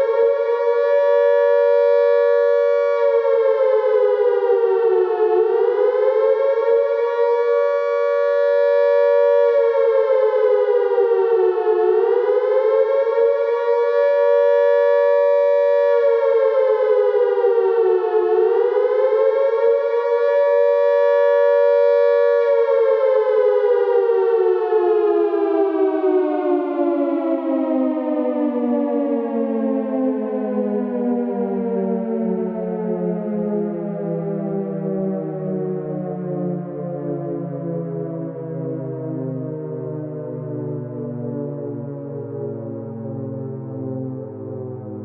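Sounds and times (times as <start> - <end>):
air-raid siren wailing: 0.0 - 45.0.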